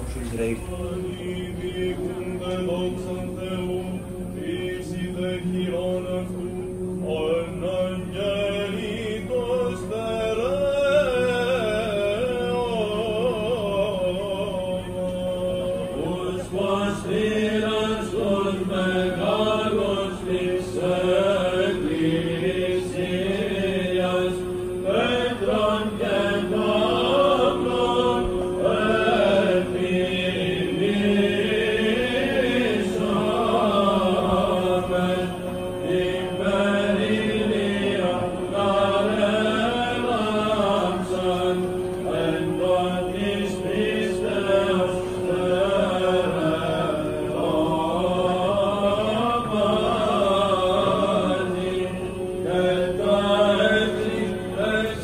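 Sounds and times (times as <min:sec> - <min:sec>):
held vocal drone note: 0:00.0 - 0:55.0
person chanting ornamented melody: 0:00.0 - 0:55.0.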